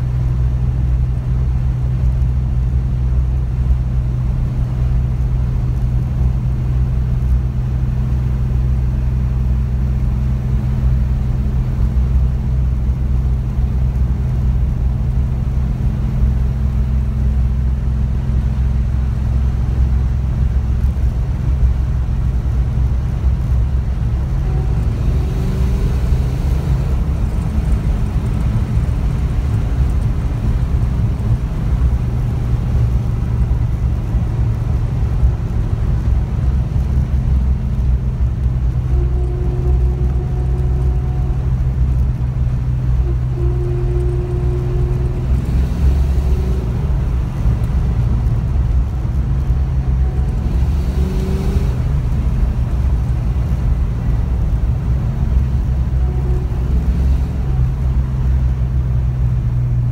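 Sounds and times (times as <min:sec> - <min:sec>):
car engine drone from inside: 0:00.0 - 0:59.9
road noise: 0:00.0 - 0:59.9.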